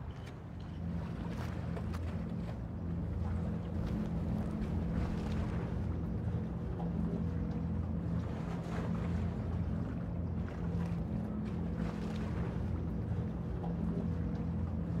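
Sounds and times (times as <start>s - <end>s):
low pulsing drone: 0.0s - 15.0s.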